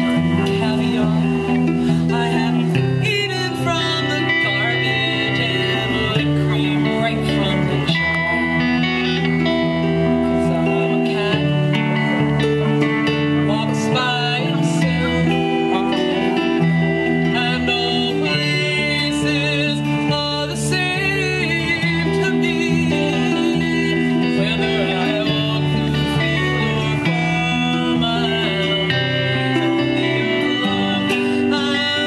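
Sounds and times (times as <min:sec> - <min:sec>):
woman singing: 0:00.0 - 0:09.1, 0:10.3 - 0:32.0
bass guitar: 0:00.0 - 0:32.0
electric guitars: 0:00.0 - 0:32.0.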